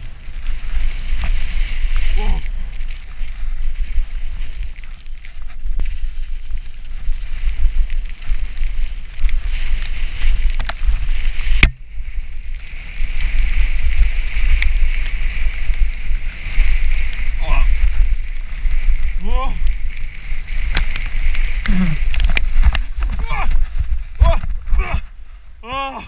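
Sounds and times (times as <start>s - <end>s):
bike ride rumble and hiss: 0.0s - 26.0s
wind buffeting microphone: 0.0s - 26.0s.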